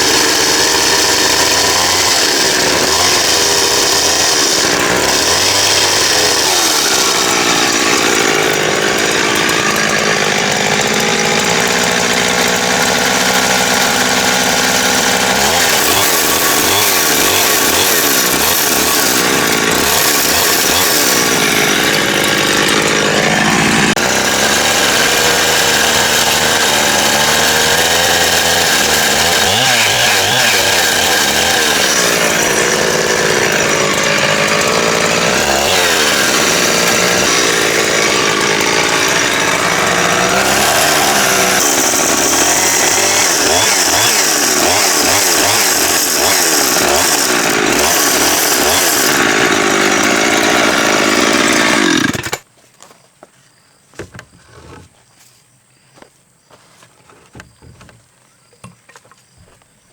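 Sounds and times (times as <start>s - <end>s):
power saw cutting wood: 0.0s - 52.5s.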